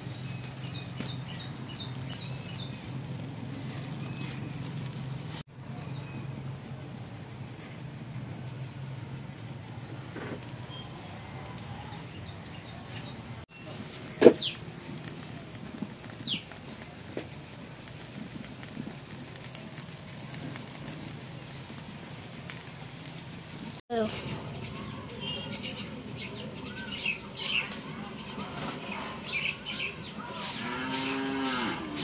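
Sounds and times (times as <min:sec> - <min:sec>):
fire crackling: 0:00.0 - 0:32.0.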